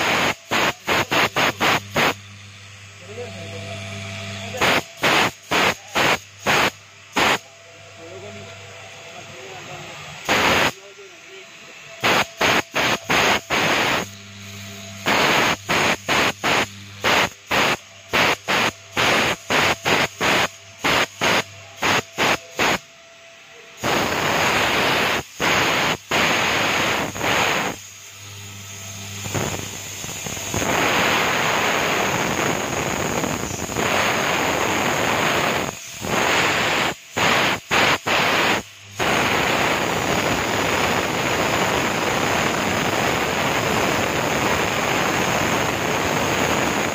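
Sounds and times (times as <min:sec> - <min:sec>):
router spindle cutting board: 0:00.0 - 0:46.9
spindle high whine: 0:00.0 - 0:46.9.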